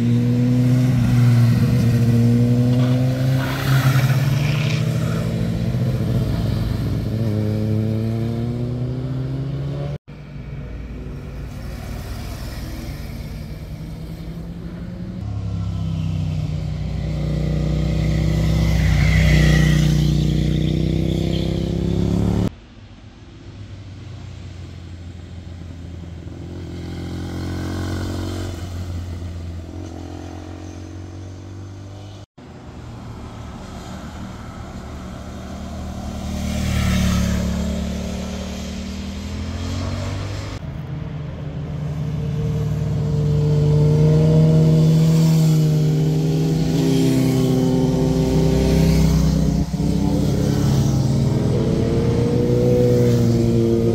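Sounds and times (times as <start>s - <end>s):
motorcycle engines passing: 0.0s - 22.5s, 26.2s - 53.9s.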